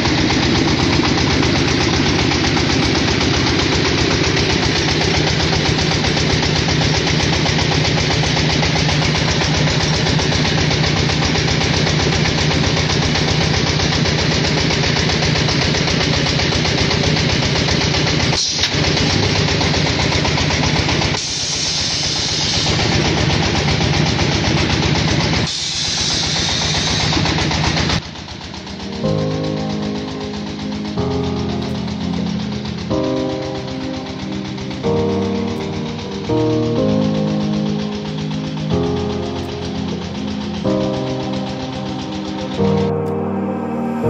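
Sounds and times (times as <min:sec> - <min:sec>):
machine clatter: 0:00.0 - 0:43.0
diesel engine running: 0:00.0 - 0:44.0.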